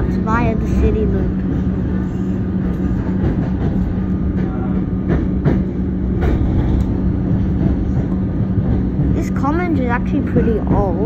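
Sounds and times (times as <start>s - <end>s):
train running rumble and hum: 0.0s - 11.0s
wheels clacking over rail joints: 0.0s - 11.0s.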